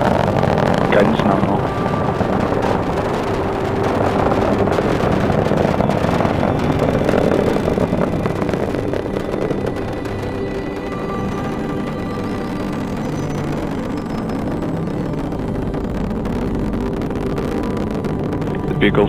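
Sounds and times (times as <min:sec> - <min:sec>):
rocket engines roaring: 0:00.0 - 0:19.0.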